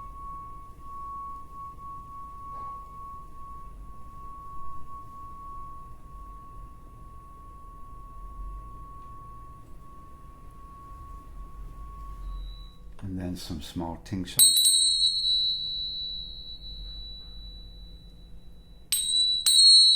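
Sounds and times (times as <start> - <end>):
tuning fork pure high tone: 0.0 - 13.1, 14.4 - 19.9.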